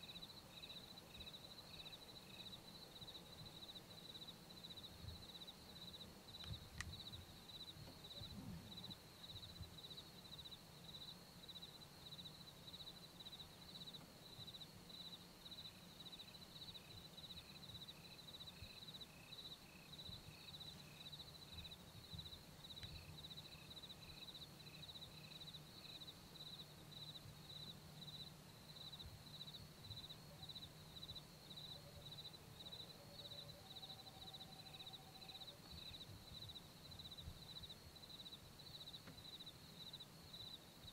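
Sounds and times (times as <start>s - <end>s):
faint low hum: 0.0s - 40.9s
insect slower lower chirps: 0.0s - 40.9s.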